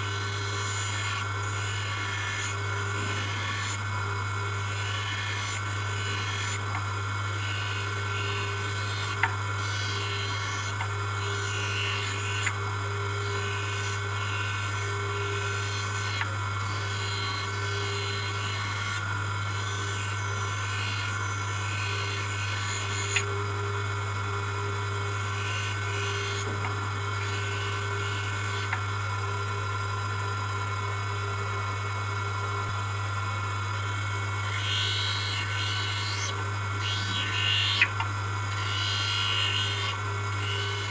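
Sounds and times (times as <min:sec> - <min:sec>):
motor humming: 0:00.0 - 0:40.9.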